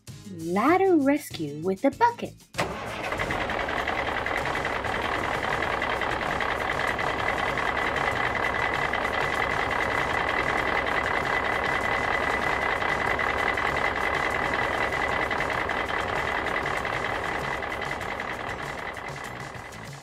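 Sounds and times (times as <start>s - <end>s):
machine whining: 2.6s - 20.0s.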